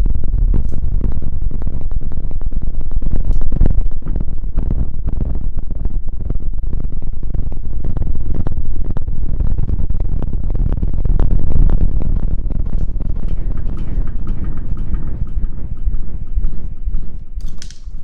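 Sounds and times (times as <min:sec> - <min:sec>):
low rumbling handling noise: 0:00.0 - 0:18.0.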